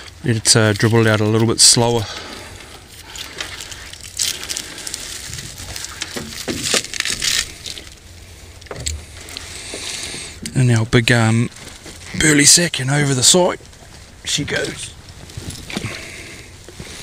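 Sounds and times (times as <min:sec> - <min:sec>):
plastic and netting crinkling: 0:00.0 - 0:17.0.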